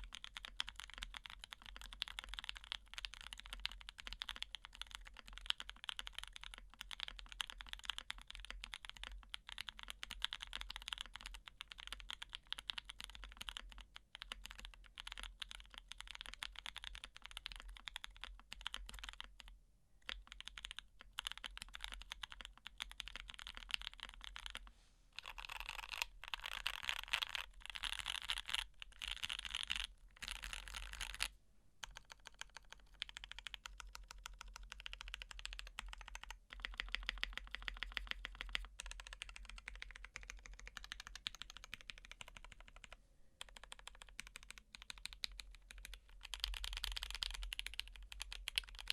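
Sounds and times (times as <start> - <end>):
mechanical keyboard typing: 0.0 - 24.6, 25.2 - 48.9.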